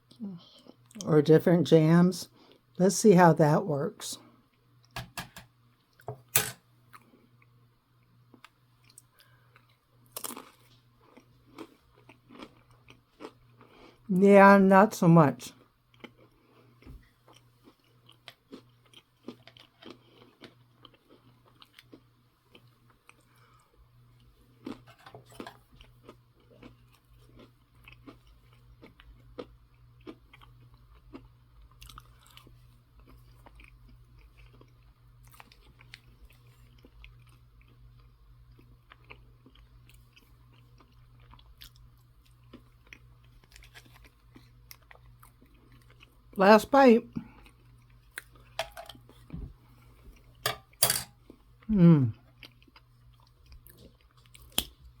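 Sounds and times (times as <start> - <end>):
low steady hum: 0.0 - 55.0
person chewing crunchy food: 8.3 - 14.1, 15.5 - 46.4, 47.1 - 55.0.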